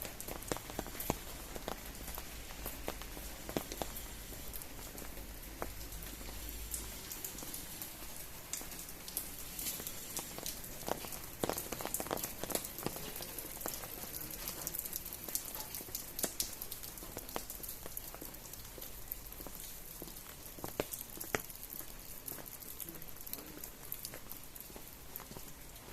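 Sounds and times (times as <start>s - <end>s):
rain falling: 0.0s - 25.9s
raindrops ticking: 0.0s - 25.9s.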